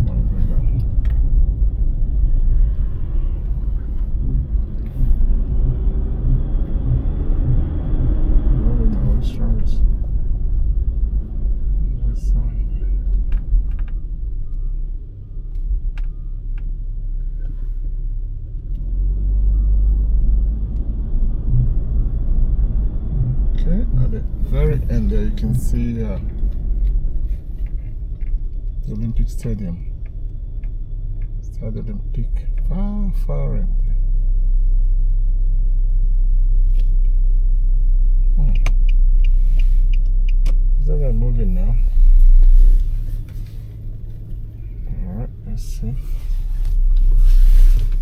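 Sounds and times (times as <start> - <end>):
car engine rumble: 0.0 - 48.0
road noise: 0.0 - 48.0.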